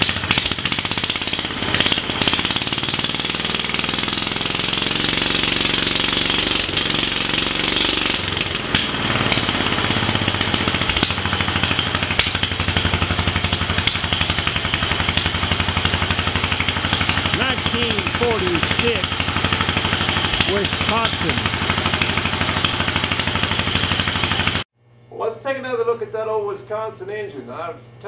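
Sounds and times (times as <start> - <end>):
single-cylinder engine running: 0.0 - 24.7.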